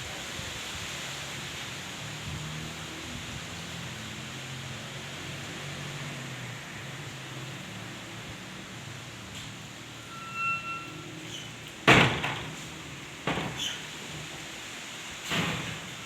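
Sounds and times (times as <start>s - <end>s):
light drizzle: 0.0s - 16.0s.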